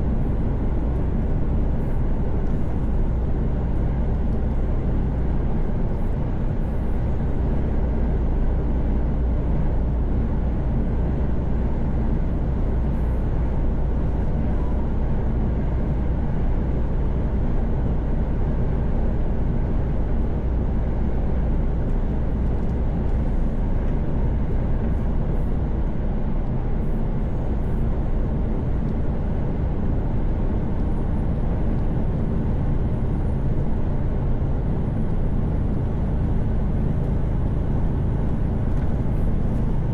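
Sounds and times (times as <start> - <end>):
truck engine drone: 0.0 - 39.9.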